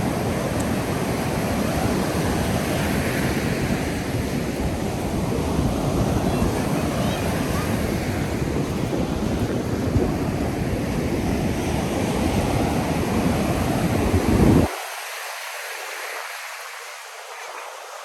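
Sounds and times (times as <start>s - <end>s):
wind buffeting microphone: 0.0s - 14.8s
ocean surf washing on beach: 0.0s - 18.0s.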